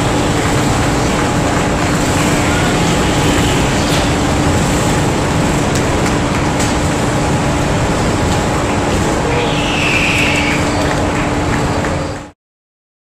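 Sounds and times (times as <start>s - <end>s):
go-kart engines passing: 0.0s - 12.2s.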